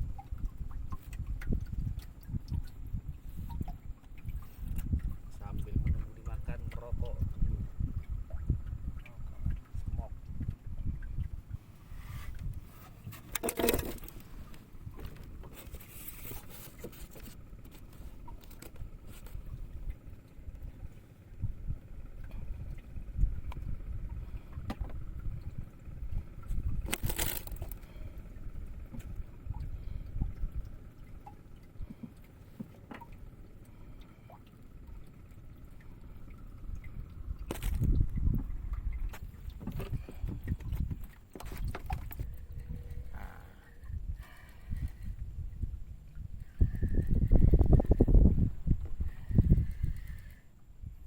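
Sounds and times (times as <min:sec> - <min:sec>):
water lapping against boat: 0:00.0 - 0:51.0
wind rumble on microphone: 0:00.0 - 0:51.0.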